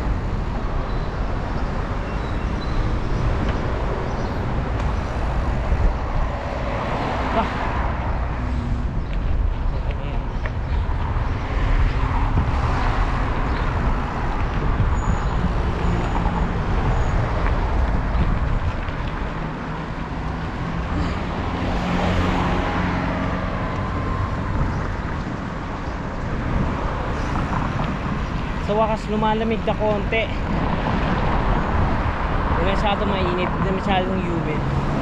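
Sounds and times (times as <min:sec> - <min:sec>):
passing motor vehicles rumbling: 0:00.0 - 0:35.0.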